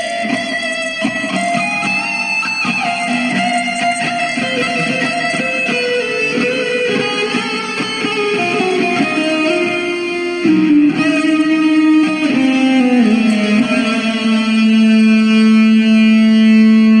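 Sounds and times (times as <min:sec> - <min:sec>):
electric guitar lead line: 0:00.0 - 0:17.0.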